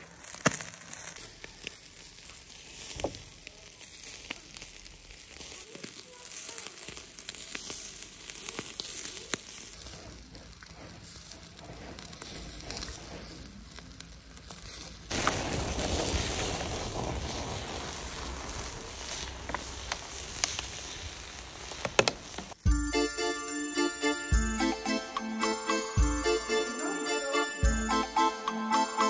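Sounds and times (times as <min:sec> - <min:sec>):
fire crackling and popping: 0:00.0 - 0:26.9.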